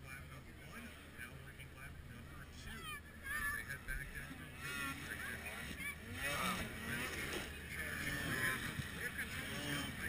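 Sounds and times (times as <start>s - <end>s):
snowmobile engines revving: 0.0s - 10.0s.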